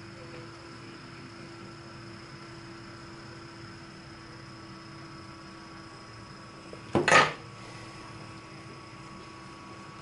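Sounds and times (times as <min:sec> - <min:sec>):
electrical hum and hiss: 0:00.0 - 0:10.0.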